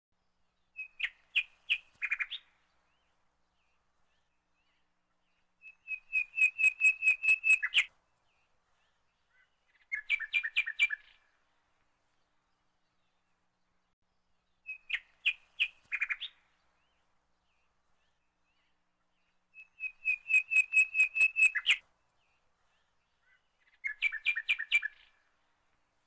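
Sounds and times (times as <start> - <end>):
small bird chirping: 0.6 - 7.9, 8.7 - 11.4, 14.5 - 25.4.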